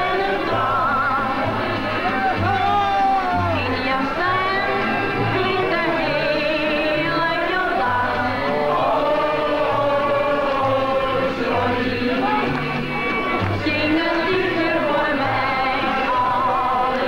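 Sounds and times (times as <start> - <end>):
voices singing together: 0.0 - 17.0.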